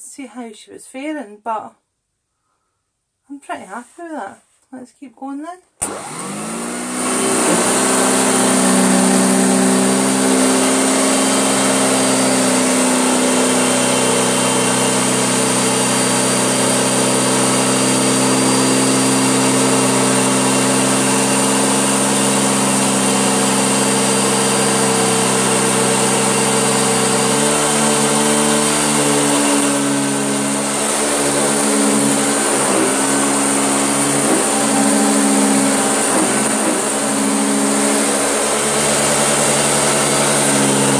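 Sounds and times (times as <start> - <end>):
vacuum cleaner running: 5.8 - 40.9.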